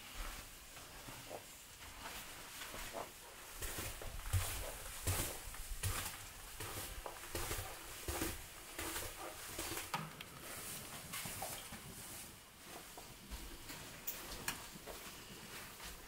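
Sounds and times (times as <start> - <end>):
clothing rustle: 0.0 - 16.0
soft footsteps: 0.0 - 16.0
small taps and scuffs: 0.1 - 16.0.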